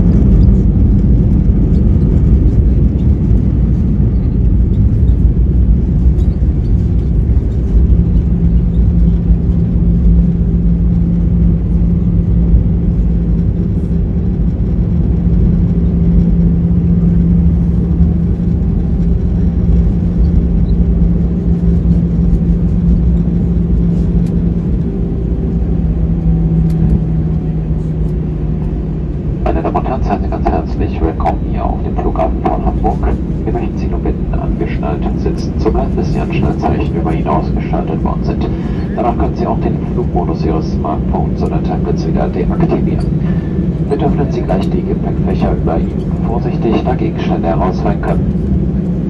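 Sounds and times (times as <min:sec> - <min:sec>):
low rumble of engines and wheels: 0:00.0 - 0:49.0
steady cabin hum: 0:00.0 - 0:49.0.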